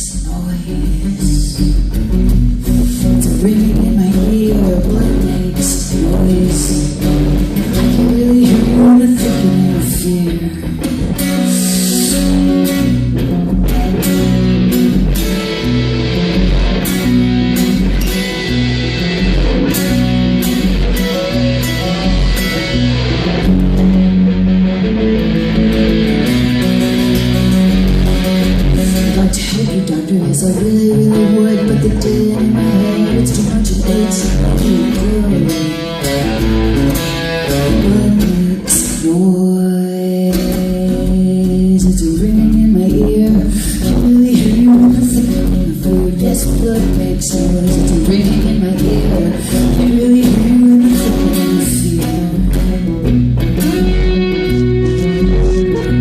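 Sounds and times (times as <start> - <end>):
bass line: 0.0 - 56.0
guitar: 0.0 - 56.0.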